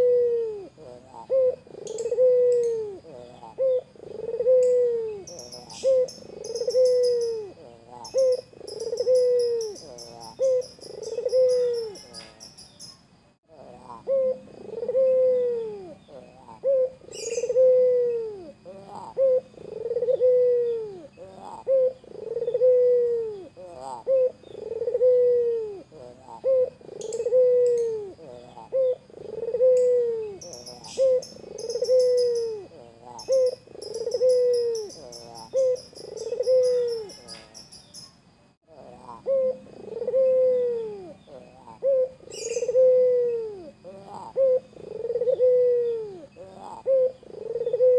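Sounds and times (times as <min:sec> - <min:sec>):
dove cooing: 0:00.0 - 0:12.6, 0:13.5 - 0:37.7, 0:38.7 - 0:47.9
small birds chirping: 0:00.7 - 0:47.9.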